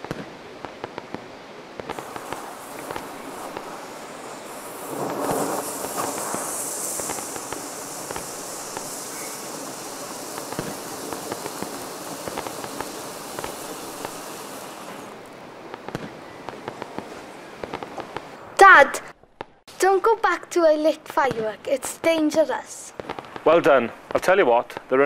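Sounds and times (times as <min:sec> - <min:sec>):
fireworks rushing hiss: 0:00.0 - 0:18.8, 0:20.6 - 0:25.0
fireworks crackling and popping: 0:00.0 - 0:25.0.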